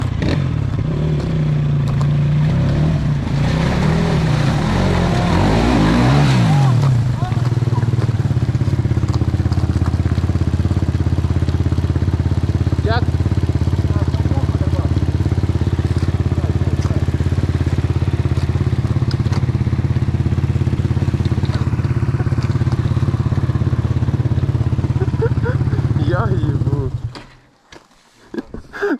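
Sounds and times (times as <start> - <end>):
motorcycle engine at low revs: 0.0 - 27.5.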